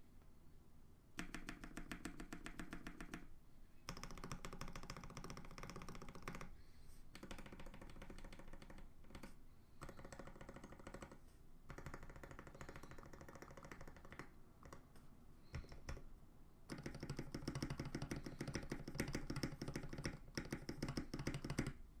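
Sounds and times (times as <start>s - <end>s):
fast typing on mechanical keyboard: 1.2s - 3.3s, 3.9s - 6.5s, 7.1s - 14.8s, 15.5s - 16.0s, 16.7s - 21.8s.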